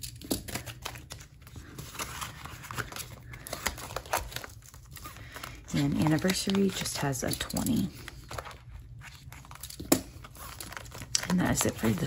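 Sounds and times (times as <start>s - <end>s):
paper banknotes rustling: 0.0s - 12.0s.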